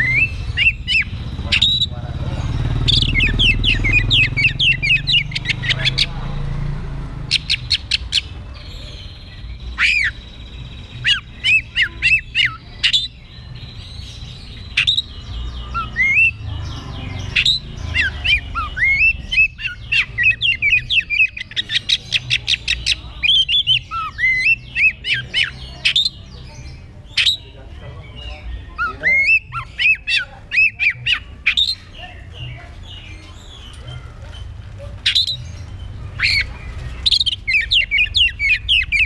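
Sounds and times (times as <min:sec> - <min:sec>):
bird singing whistled notes: 0:00.0 - 0:06.6, 0:07.3 - 0:39.0.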